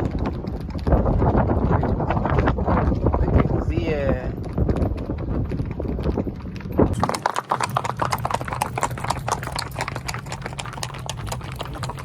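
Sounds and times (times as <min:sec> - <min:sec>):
horses' hooves clopping on street: 0:00.0 - 0:12.0.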